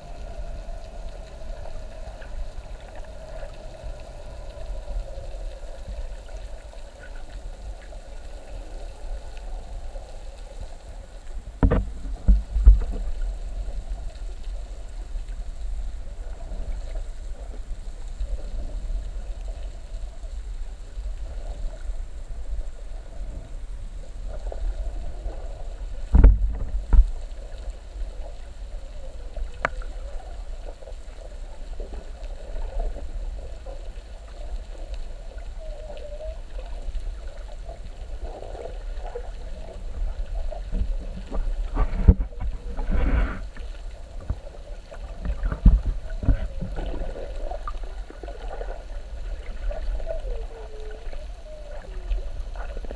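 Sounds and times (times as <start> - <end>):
muffled underwater water rumble: 0.0 - 52.9.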